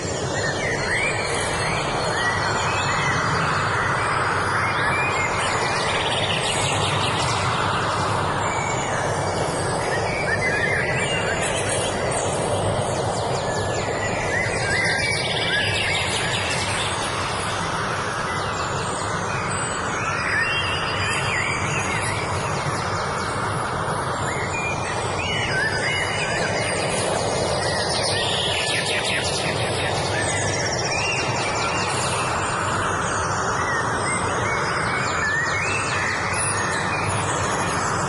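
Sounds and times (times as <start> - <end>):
birds singing: 0.0 - 38.0
steady rushing background noise: 0.0 - 38.0.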